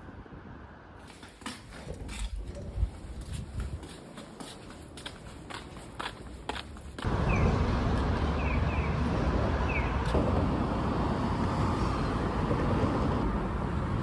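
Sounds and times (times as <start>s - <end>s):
road traffic rumble: 0.1s - 14.0s.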